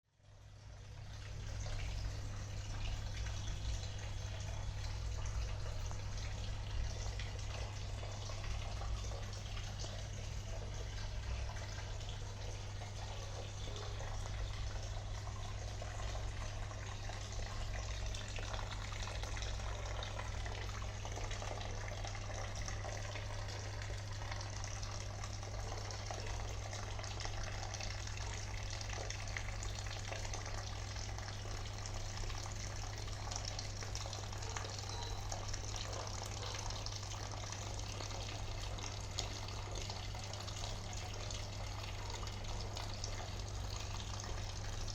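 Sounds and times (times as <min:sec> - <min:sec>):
low steady hum: 0:00.2 - 0:44.9
water fountain splashing: 0:01.0 - 0:44.9.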